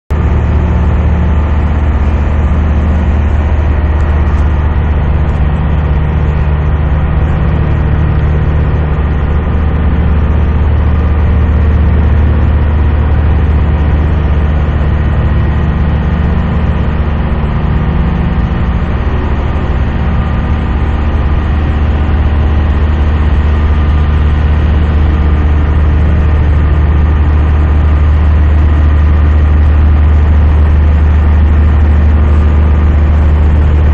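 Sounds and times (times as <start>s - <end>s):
ferry engines droning: 0.1s - 33.9s.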